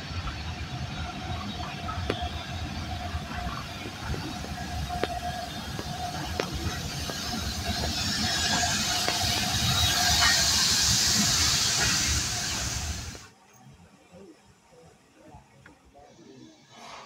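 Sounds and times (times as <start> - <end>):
steam locomotive hissing steam: 0.0 - 13.4, 16.1 - 17.0.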